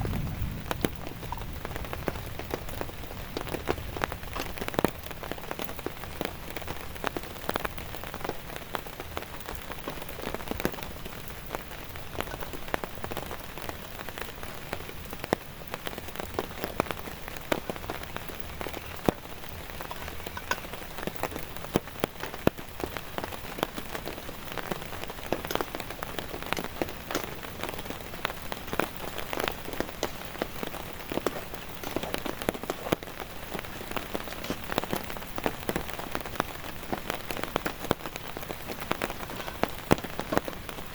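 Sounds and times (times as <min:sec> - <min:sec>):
heavy rain falling: 0:00.0 - 0:40.9
raindrop hits: 0:00.0 - 0:40.9.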